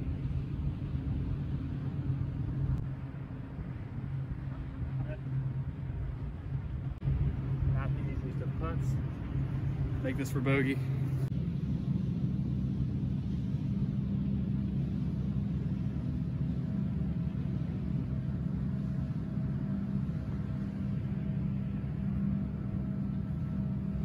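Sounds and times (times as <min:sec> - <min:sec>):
faint hum: 0:00.0 - 0:24.0
low rumble: 0:00.0 - 0:24.0.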